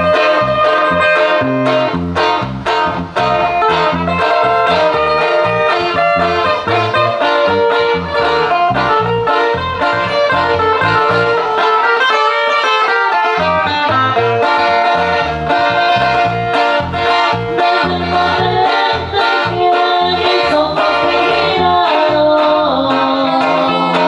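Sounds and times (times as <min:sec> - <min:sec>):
acoustic-electric guitar melody: 0:00.0 - 0:24.0
bass line: 0:00.0 - 0:24.0.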